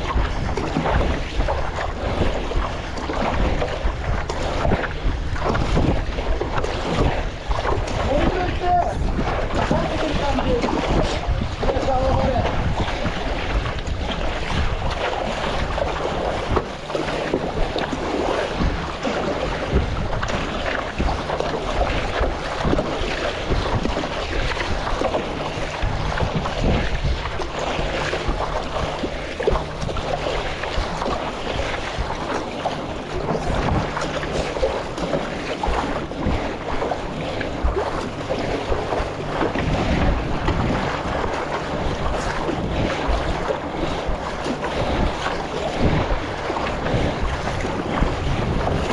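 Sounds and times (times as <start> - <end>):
choppy water splashing: 0.0 - 48.9
wind buffeting microphone: 0.0 - 48.9.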